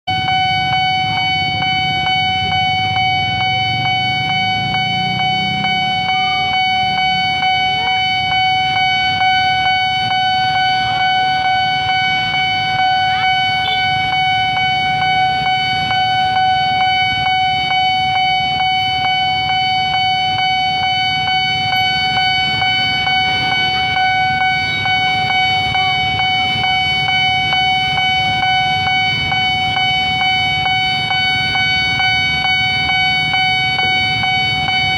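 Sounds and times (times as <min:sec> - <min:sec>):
level crossing alarm tone: 0:00.1 - 0:34.9.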